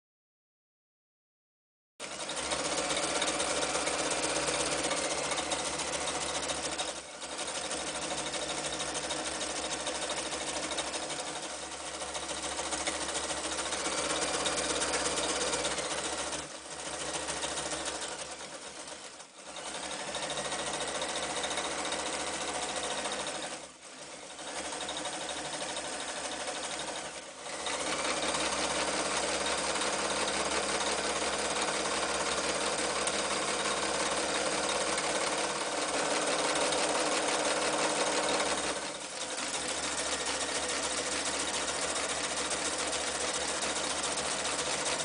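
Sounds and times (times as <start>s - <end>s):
sewing machine stitching: 2.0s - 45.0s.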